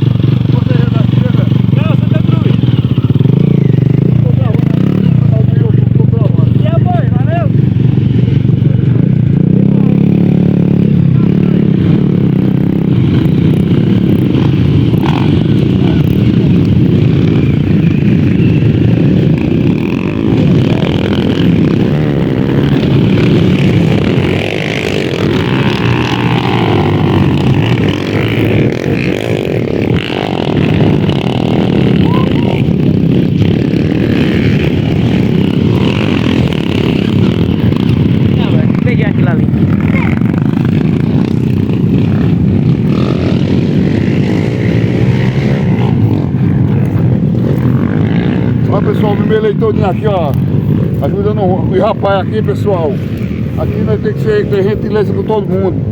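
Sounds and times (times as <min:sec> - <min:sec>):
dirt bike engines revving: 0:00.0 - 0:55.9.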